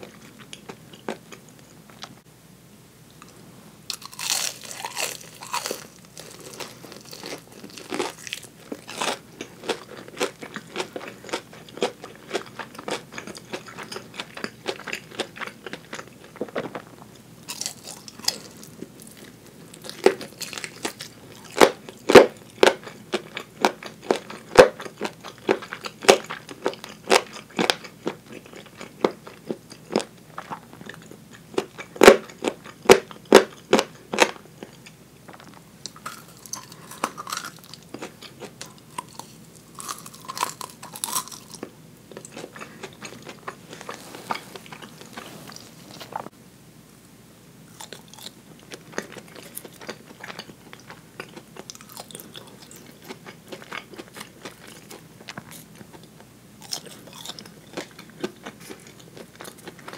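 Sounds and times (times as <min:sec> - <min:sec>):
crunchy chewing of fried chicken: 0:00.0 - 0:02.2, 0:03.2 - 0:46.3, 0:47.7 - 0:59.9.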